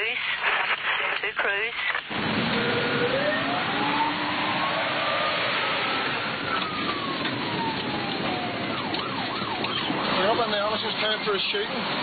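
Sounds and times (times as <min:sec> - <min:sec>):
moving vehicle noise: 0:00.0 - 0:12.0
ambulance siren wailing: 0:02.1 - 0:12.0.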